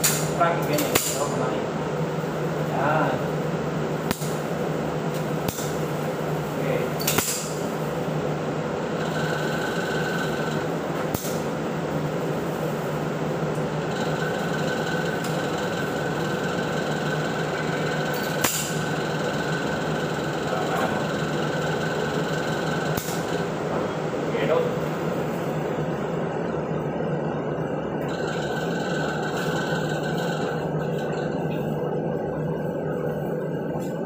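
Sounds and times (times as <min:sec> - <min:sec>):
ventilation blower hum: 0:00.0 - 0:34.0.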